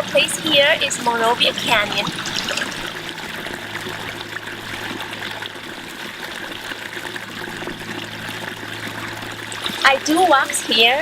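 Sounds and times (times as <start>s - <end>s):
low hum: 0.0s - 11.0s
stream water rushing: 0.0s - 11.0s.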